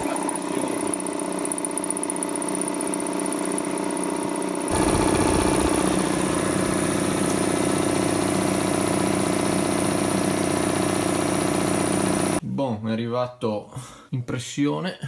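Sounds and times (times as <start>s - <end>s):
air compressor running: 0.0s - 12.4s.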